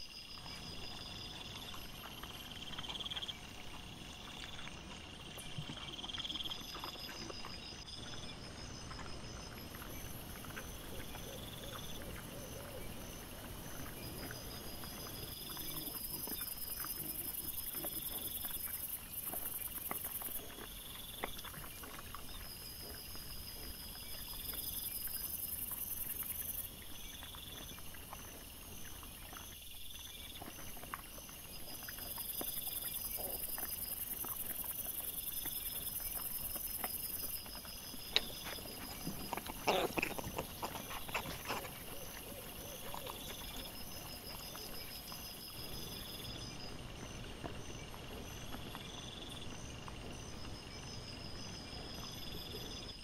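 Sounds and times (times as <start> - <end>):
animals rooting in leaf litter: 0.0 - 53.0.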